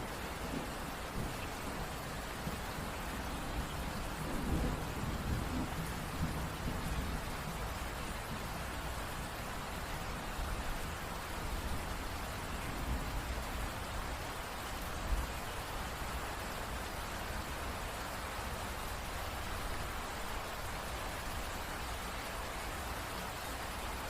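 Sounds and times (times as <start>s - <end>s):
rain falling on a surface: 0.0s - 24.0s.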